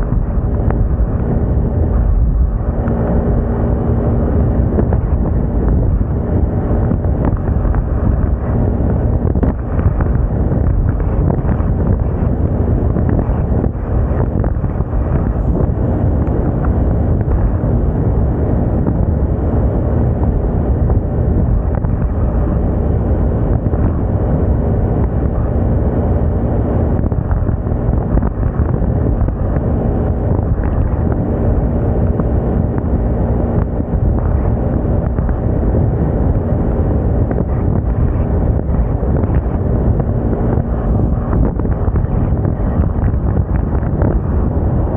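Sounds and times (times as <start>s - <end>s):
scooter engine humming: 0.0s - 44.9s
wind rumble on microphone: 0.0s - 44.9s.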